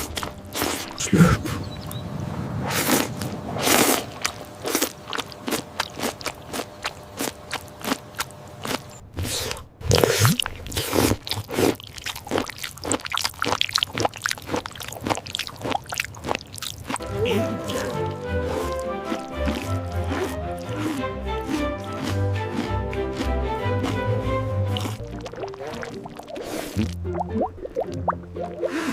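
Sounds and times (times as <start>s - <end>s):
crunchy chewing and biting: 0.0s - 1.7s, 2.7s - 27.7s.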